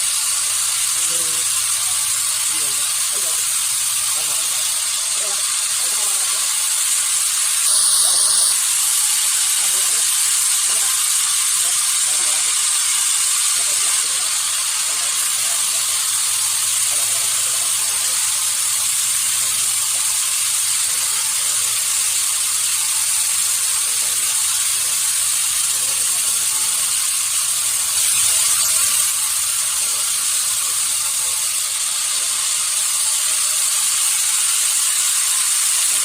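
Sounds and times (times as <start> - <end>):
sawmill machinery running: 0.0 - 36.0.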